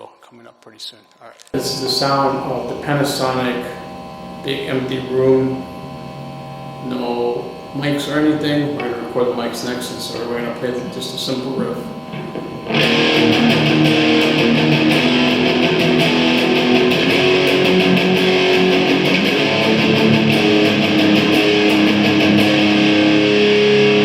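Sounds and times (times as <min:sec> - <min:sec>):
electric guitar riff: 0:01.5 - 0:24.0.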